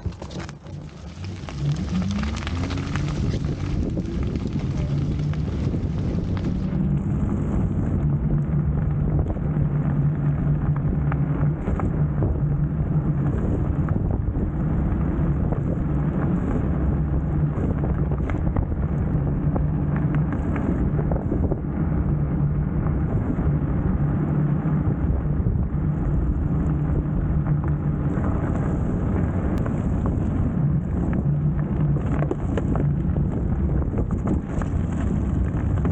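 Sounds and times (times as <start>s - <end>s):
steady low hum: 0.0s - 35.9s
tyres on wet road: 0.0s - 35.9s
wind noise on microphone: 0.0s - 35.9s.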